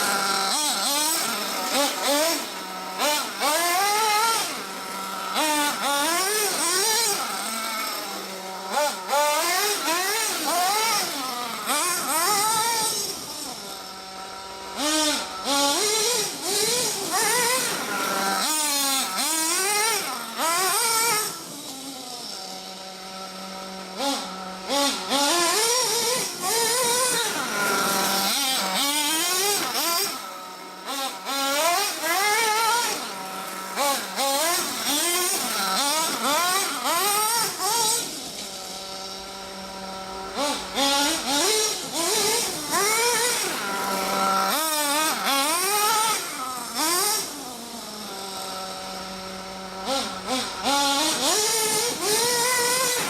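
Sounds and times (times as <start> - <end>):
model nitro engine revving: 0.0 - 53.0.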